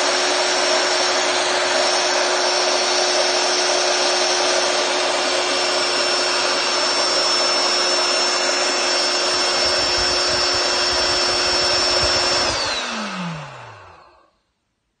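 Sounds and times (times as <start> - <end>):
electric air pump whirring: 0.0 - 14.4.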